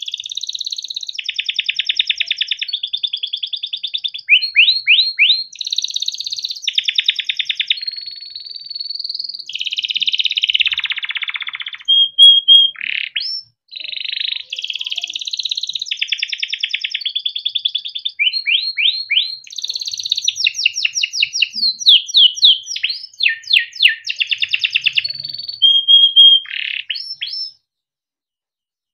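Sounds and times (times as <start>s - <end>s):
canary singing trills: 0.0s - 27.6s.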